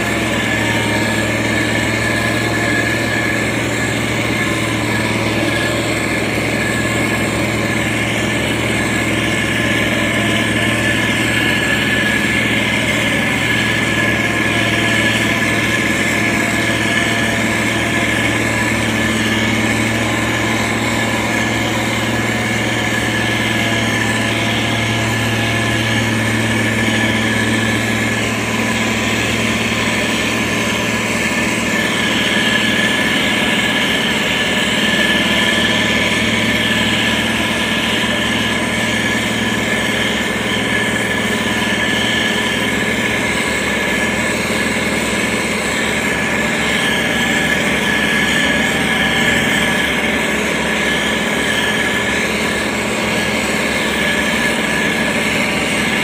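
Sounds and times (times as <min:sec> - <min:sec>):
diesel engine running: 0:00.0 - 0:56.0
steady high whine: 0:00.0 - 0:56.0.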